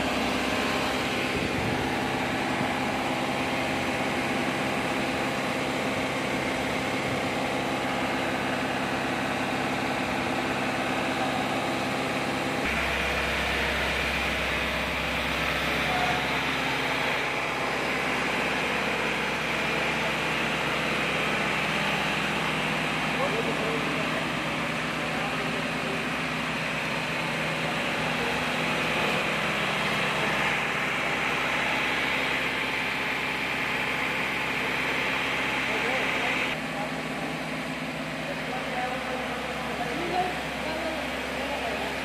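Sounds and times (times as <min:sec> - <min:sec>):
deep engine hum: 0:00.0 - 0:42.0
diesel truck engine idling: 0:00.0 - 0:42.0.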